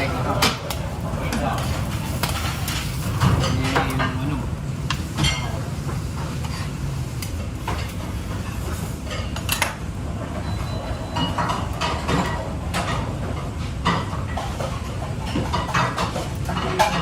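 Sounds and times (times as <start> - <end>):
dishes and utensils clinking: 0.0 - 6.8, 7.6 - 17.0.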